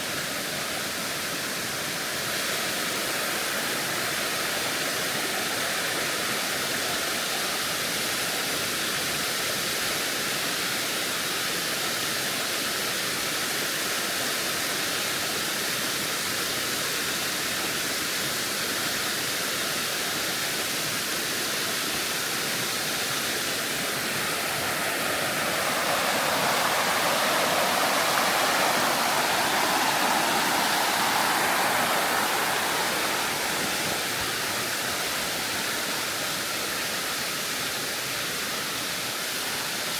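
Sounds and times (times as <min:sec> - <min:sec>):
waterfall rushing: 0:00.0 - 0:15.8, 0:19.6 - 0:39.9.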